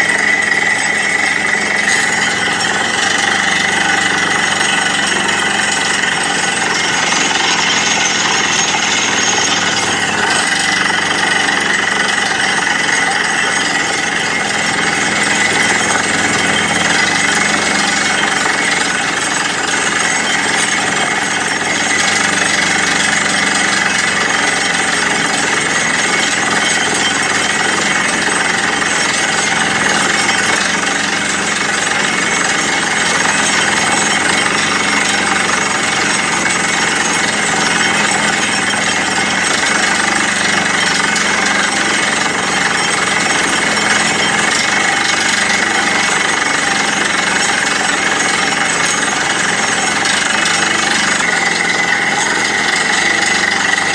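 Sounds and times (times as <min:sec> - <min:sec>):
drilling rig hammering into rock: 0:00.0 - 0:53.9
rig engine running: 0:00.0 - 0:53.9.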